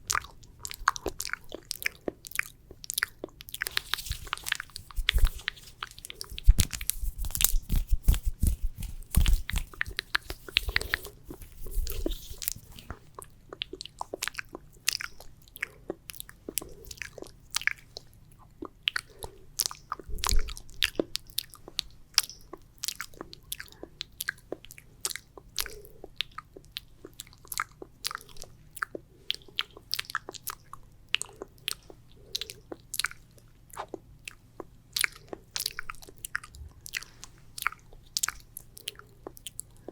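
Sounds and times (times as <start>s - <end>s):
wet mouth clicks and smacks: 0.0s - 34.4s.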